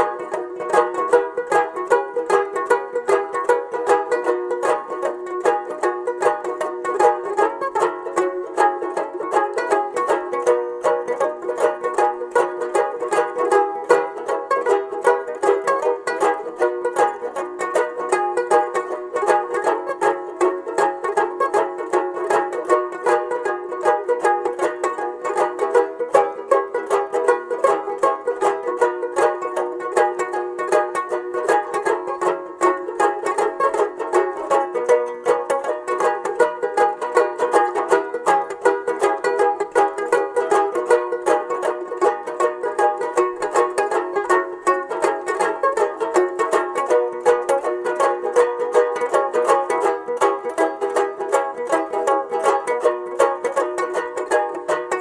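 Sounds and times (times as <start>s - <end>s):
fast banjo picking: 0.0s - 55.0s.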